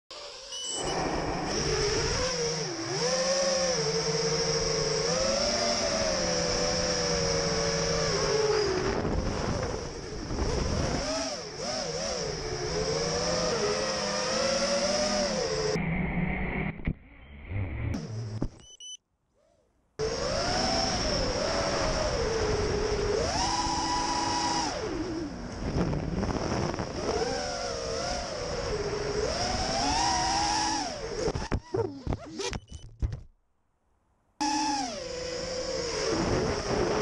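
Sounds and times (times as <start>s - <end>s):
drone motors whining: 0.1s - 33.2s, 34.4s - 37.0s.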